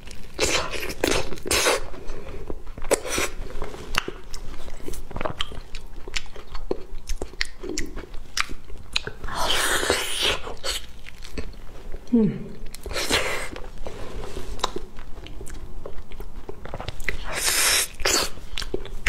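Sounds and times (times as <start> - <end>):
wet chewing mouth sounds: 0.4 - 13.7, 14.4 - 19.0.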